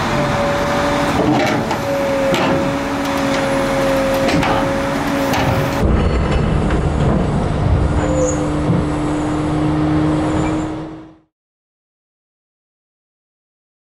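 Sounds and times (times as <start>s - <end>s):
excavator engine humming: 0.0s - 11.3s.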